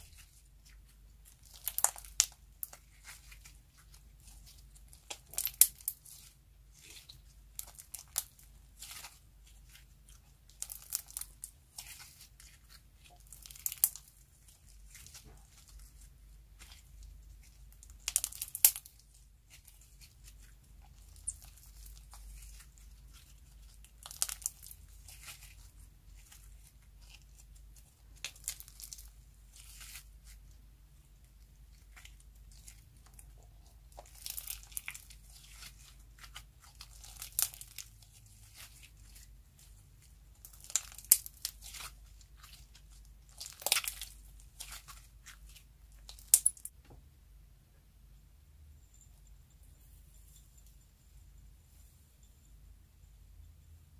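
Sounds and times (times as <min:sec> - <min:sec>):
slime crackling and popping: 0:00.0 - 0:16.0, 0:16.6 - 0:30.4, 0:31.7 - 0:39.7, 0:40.3 - 0:46.7.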